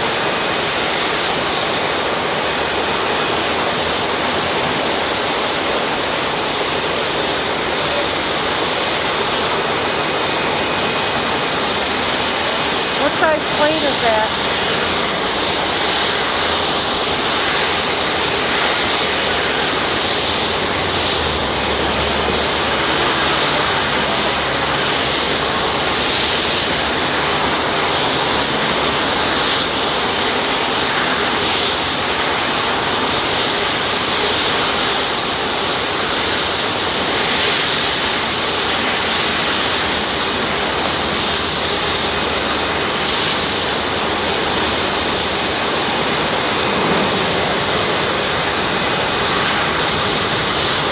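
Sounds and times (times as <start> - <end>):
airliner jet engines taxiing: 0.0 - 50.9.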